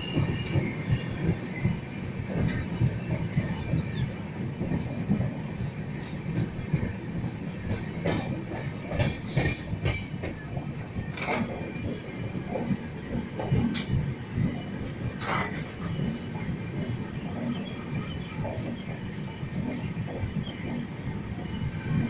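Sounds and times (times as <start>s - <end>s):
train rumbling on rails: 0.0s - 22.0s
wheels clacking and knocking: 0.0s - 22.0s.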